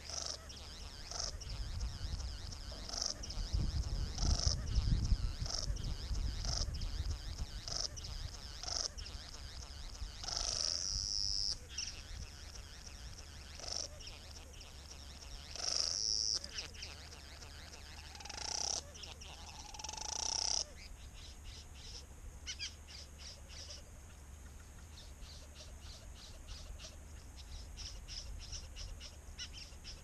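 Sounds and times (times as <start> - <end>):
bird calls: 0.0 - 30.0.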